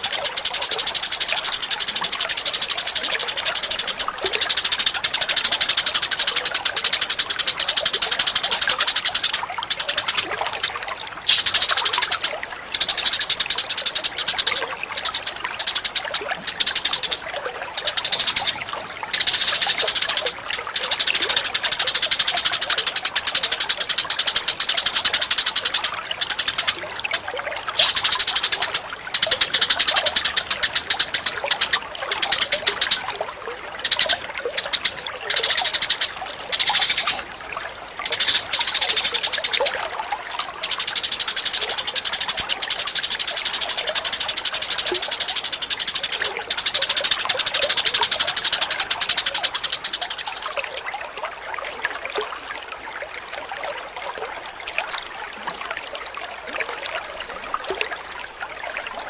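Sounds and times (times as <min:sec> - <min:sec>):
birds chattering rattle: 0:00.0 - 0:37.3, 0:37.9 - 0:50.6.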